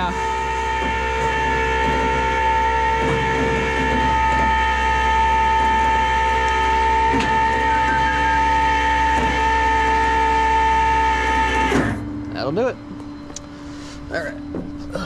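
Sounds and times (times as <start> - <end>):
mechanical whine: 0.0 - 15.0.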